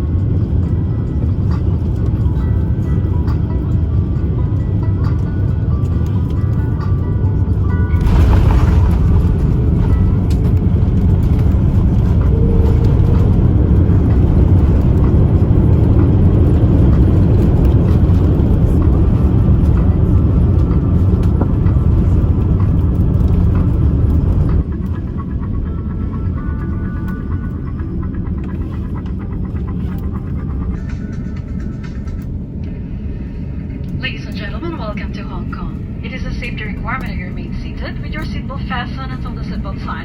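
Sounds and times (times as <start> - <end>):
jet engine rumble in cabin: 0.0 - 40.0.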